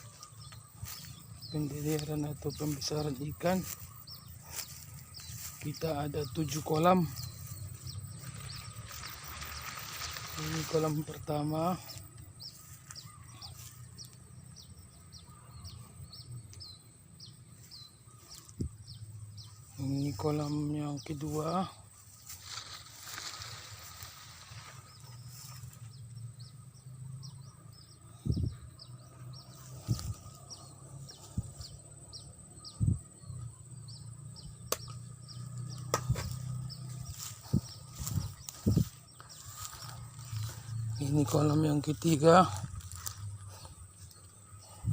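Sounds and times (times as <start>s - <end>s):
bird chirping: 0.0s - 44.9s.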